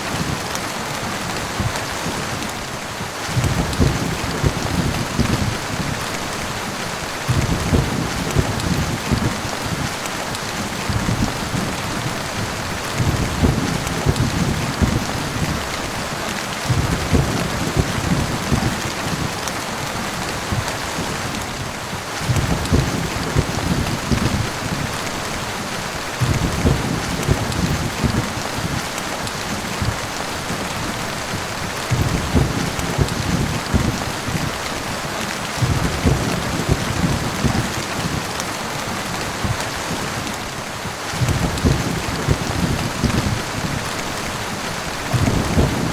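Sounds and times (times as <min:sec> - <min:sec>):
heavy rain: 0:00.0 - 0:45.9
low thunder rumbles: 0:03.2 - 0:10.0, 0:10.6 - 0:19.4, 0:20.3 - 0:25.5, 0:26.1 - 0:34.7, 0:35.5 - 0:45.9.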